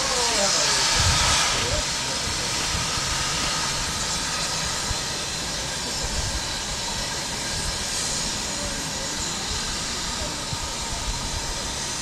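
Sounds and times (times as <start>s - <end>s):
steam train hissing: 0.0s - 12.0s
train low rumble: 0.0s - 12.0s.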